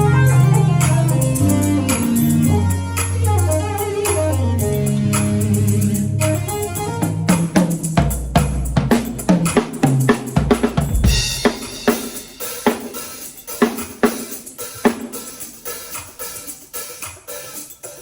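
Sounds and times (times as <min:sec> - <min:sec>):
drum kit playing a beat: 0:00.0 - 0:18.0.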